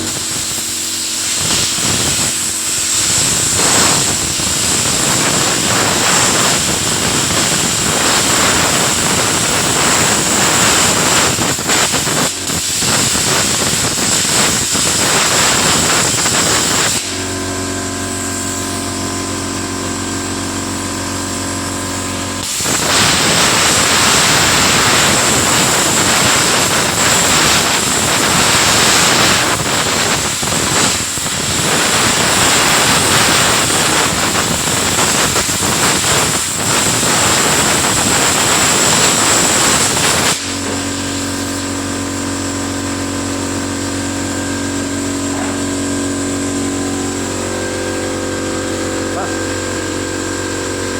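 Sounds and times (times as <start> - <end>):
high whine: 0.0 - 50.9
machine humming: 0.0 - 50.9
plasma cutter hissing: 0.0 - 50.9.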